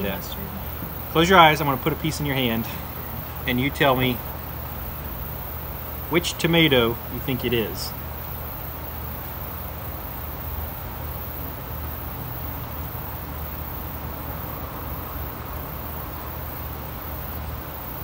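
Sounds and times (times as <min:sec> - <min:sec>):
constant low hum: 0:00.0 - 0:18.0
faint insect chirps: 0:00.0 - 0:18.0.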